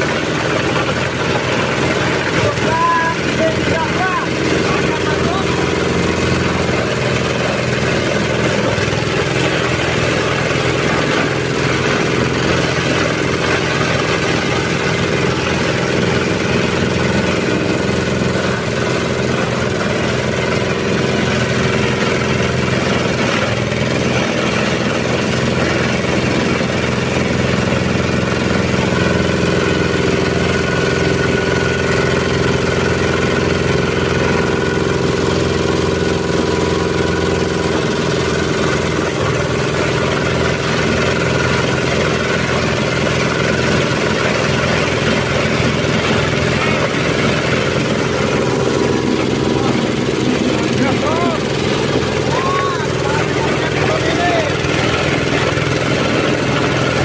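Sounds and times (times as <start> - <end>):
shredder diesel engine drone: 0.0 - 57.0.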